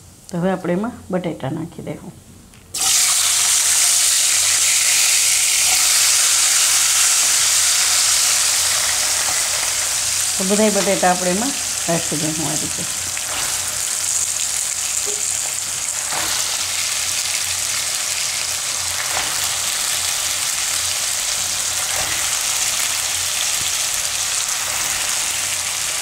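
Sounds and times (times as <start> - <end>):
potatoes sizzling in hot oil: 2.8 - 26.0.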